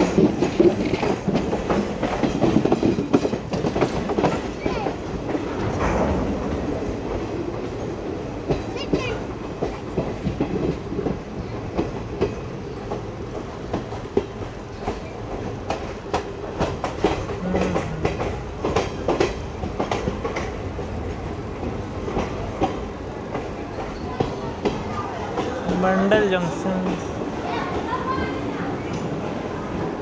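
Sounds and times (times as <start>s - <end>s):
wheels clicking over rail joints: 0.0s - 5.8s, 8.4s - 29.9s
train coach rumble: 0.0s - 30.0s.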